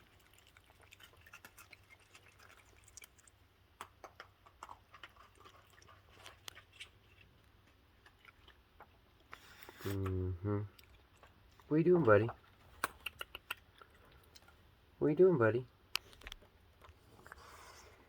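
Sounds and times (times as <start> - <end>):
raccoons chewing crunchy food: 0.0 - 10.0, 10.7 - 15.0, 15.7 - 18.0.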